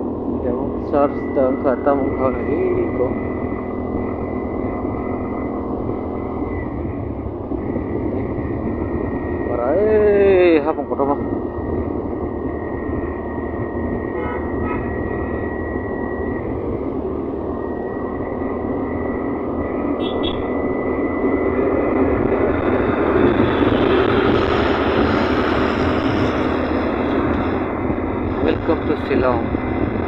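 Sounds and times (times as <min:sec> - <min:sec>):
scooter engine and road noise: 0:00.0 - 0:30.0.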